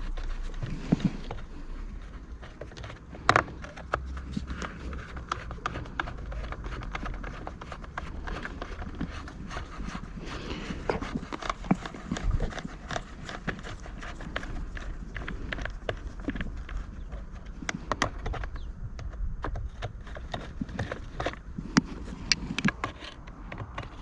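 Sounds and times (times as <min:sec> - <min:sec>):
plastic parts being handled: 0:00.0 - 0:24.0.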